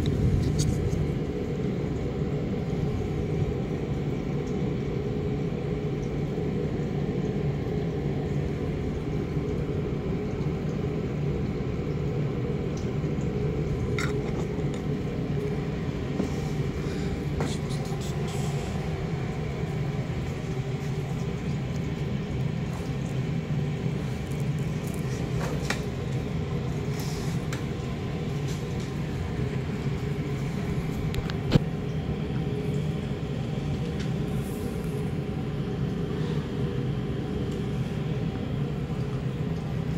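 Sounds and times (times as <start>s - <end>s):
low mechanical rumble with hum: 0.0s - 39.9s.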